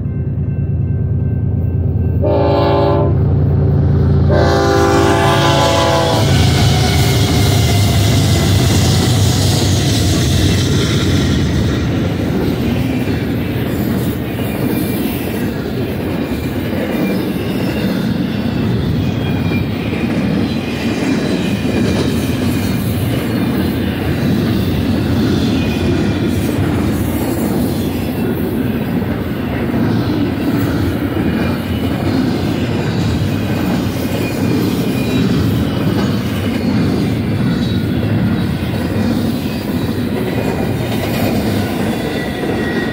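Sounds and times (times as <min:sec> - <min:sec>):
diesel locomotives rumbling: 0:00.0 - 0:42.9
freight train wheels on rails: 0:00.0 - 0:42.9.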